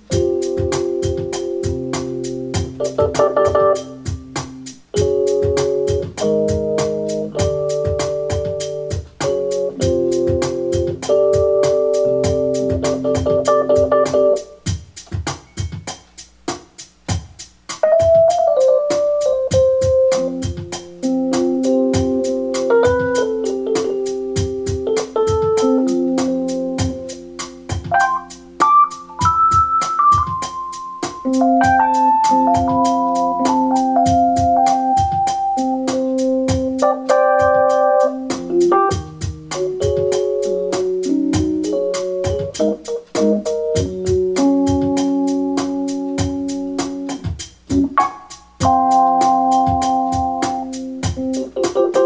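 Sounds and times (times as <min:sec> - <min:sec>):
keyboard music with organ notes: 0:00.0 - 0:52.0
ticking beat with low thumps: 0:00.0 - 0:52.0.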